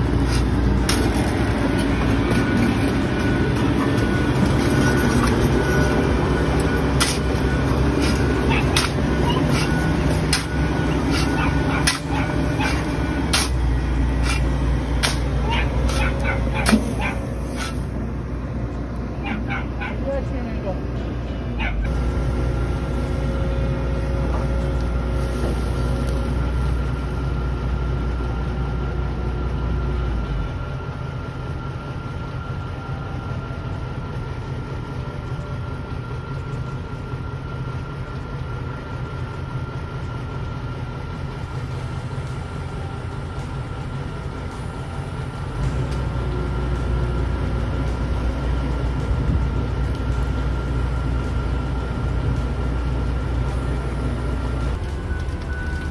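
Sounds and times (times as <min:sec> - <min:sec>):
excavator diesel engine running: 0:00.0 - 0:55.9
high engine whine: 0:00.0 - 0:55.9.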